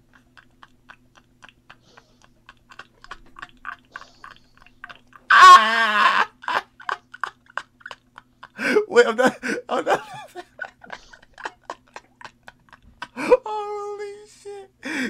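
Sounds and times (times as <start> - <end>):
man laughing: 0.0 - 15.0.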